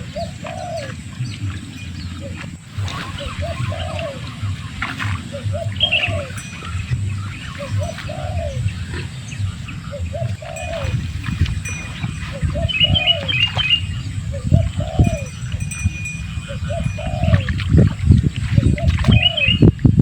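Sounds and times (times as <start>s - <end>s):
dove cooing: 0.0s - 19.8s
low steady rumble: 0.0s - 20.0s.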